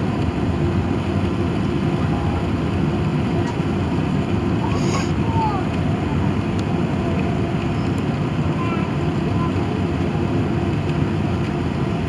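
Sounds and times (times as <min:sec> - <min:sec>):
aircraft cabin engine drone: 0:00.0 - 0:12.0.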